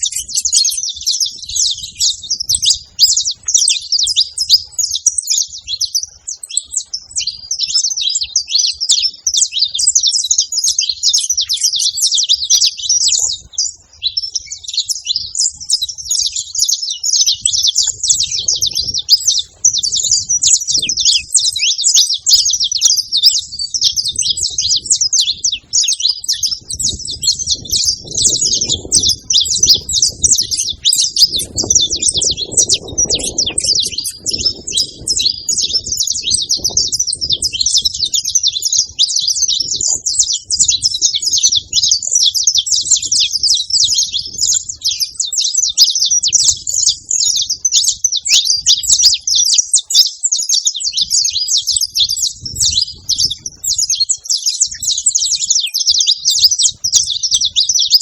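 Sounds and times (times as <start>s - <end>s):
finches chirping and singing: 0.0s - 58.0s.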